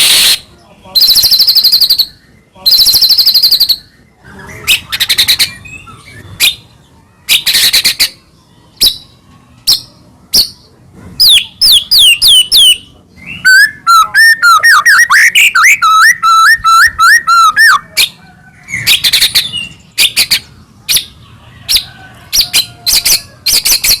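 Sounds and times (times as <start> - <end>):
bird singing: 0.3 - 24.0.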